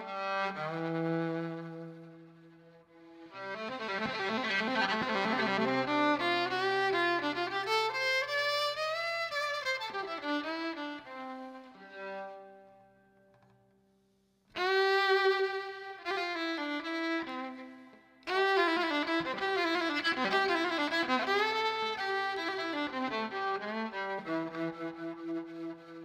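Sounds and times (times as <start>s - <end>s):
solo violin bowed: 0.0s - 13.0s, 14.6s - 26.0s.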